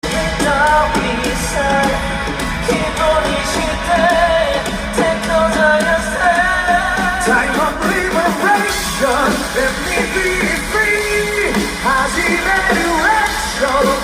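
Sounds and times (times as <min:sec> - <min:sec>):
live rock band playing: 0:00.0 - 0:14.0
man singing lead vocal: 0:00.0 - 0:14.0.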